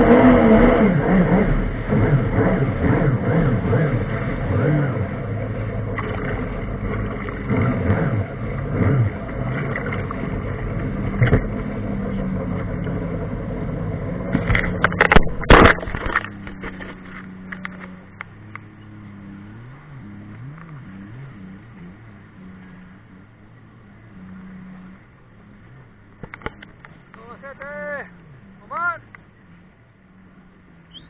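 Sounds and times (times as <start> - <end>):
jet ski engine revving: 0.0 - 31.0.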